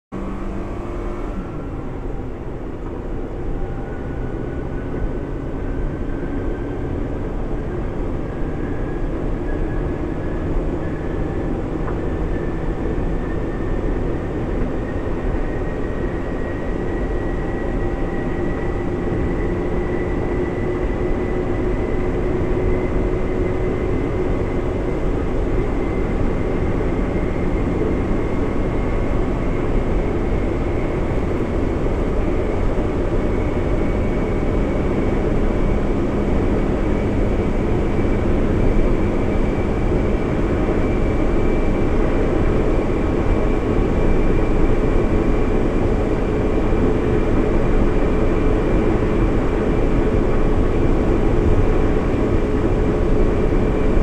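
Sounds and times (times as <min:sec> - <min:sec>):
car engine at full throttle: 0:00.1 - 0:54.0
road and wind noise: 0:00.1 - 0:54.0.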